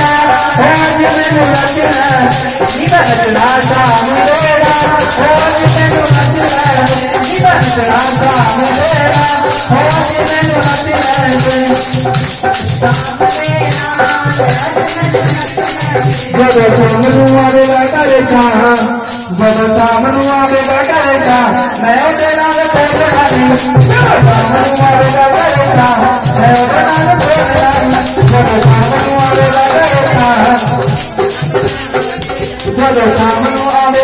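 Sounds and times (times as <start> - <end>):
jingling percussion: 0.0 - 34.0
person singing: 0.0 - 34.0
steady drum beat: 0.0 - 34.0.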